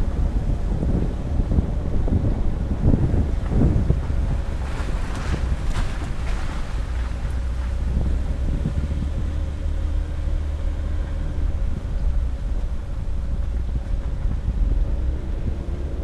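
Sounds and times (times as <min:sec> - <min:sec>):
vehicle engine and tyre rumble: 0:00.0 - 0:16.0
wind buffeting microphone: 0:00.0 - 0:16.0.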